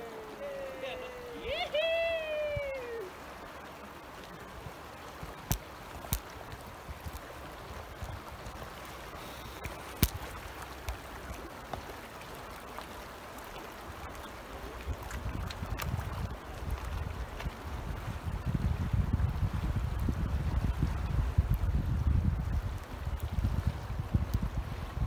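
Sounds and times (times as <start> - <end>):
river current rushing: 0.0 - 25.0.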